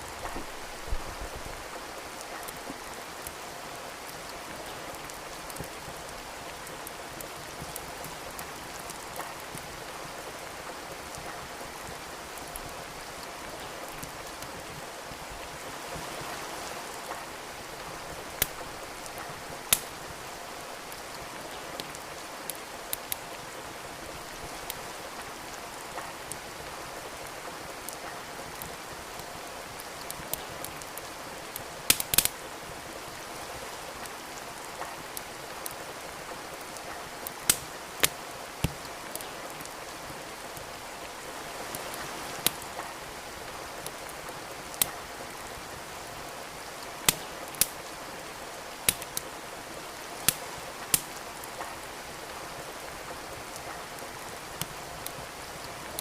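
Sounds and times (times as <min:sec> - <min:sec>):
steady rain: 0:00.0 - 0:56.0
wood fire crackling and popping: 0:00.1 - 0:16.1, 0:16.9 - 0:49.3, 0:49.9 - 0:56.0.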